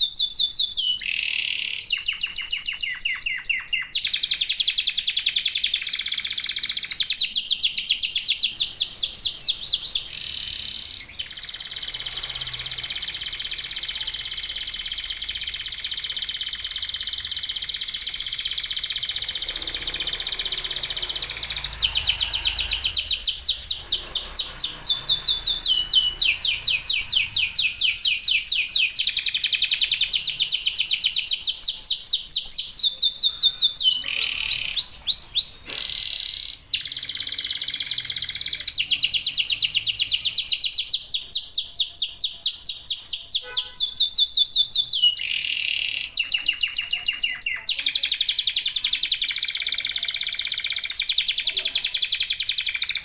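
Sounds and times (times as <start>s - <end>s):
canaries singing trills: 0.0s - 53.0s.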